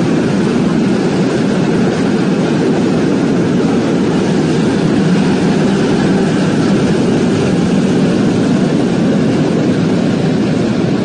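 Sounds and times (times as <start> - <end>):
train rumbling across bridge: 0.0 - 11.0.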